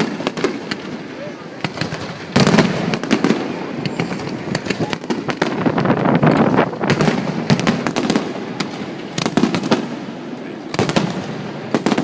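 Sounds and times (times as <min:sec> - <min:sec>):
fireworks crackling rumble: 0:00.0 - 0:12.0
fireworks cracks and pops: 0:00.0 - 0:12.0.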